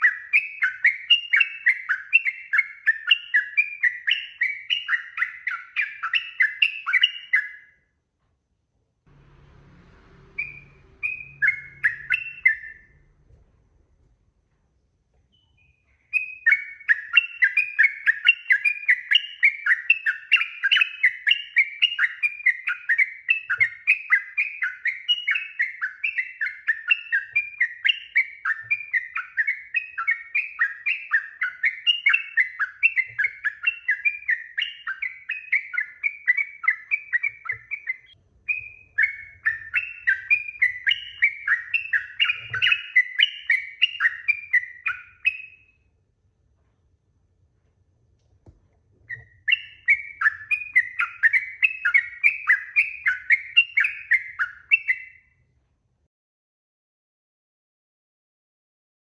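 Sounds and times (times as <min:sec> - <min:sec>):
bird chattering song: 0:00.0 - 0:07.7, 0:10.3 - 0:13.1, 0:15.3 - 0:45.8, 0:49.1 - 0:55.4.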